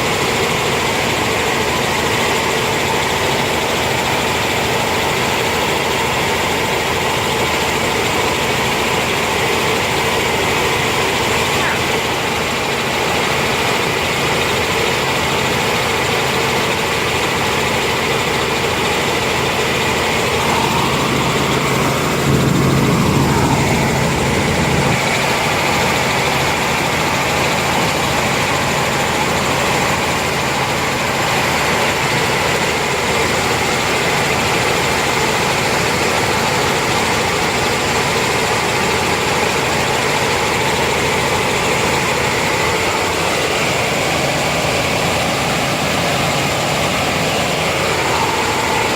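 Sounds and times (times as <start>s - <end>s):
helicopter engine and rotor drone: 0.0s - 48.9s.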